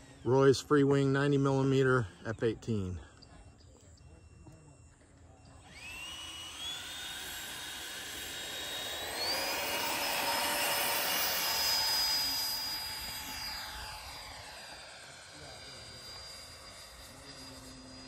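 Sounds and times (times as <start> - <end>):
model jet fan whine: 0.0 - 18.0.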